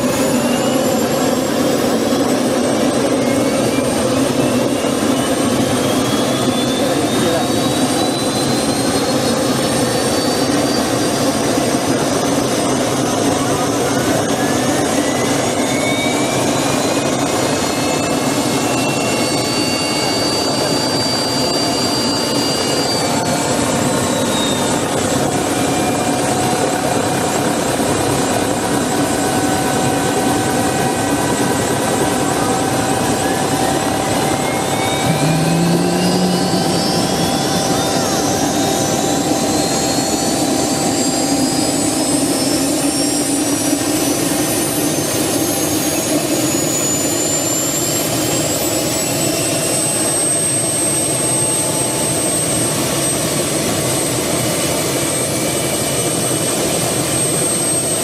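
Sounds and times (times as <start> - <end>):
helicopter turbine whine: 0.0 - 58.0
steady turbine rush: 0.0 - 58.0.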